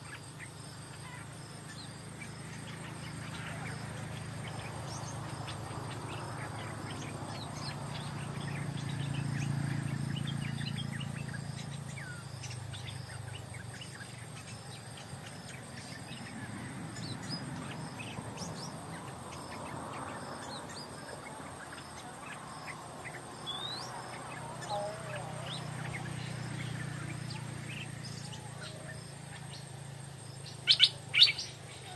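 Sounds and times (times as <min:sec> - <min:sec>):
insects buzzing: 0:00.0 - 0:31.9
small birds chirping: 0:00.0 - 0:31.9.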